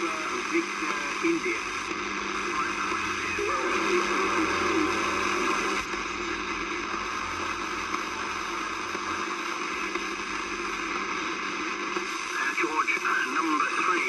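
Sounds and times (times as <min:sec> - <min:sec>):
radio static hiss: 0:00.0 - 0:14.0
low hum: 0:00.1 - 0:12.4.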